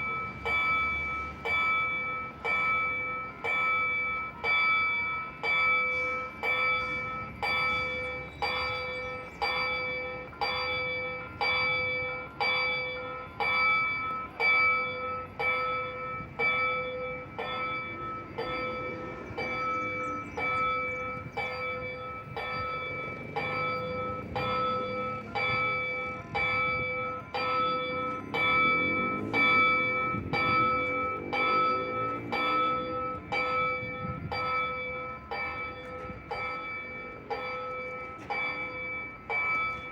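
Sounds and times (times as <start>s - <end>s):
level-crossing warning bell: 0.0s - 39.9s.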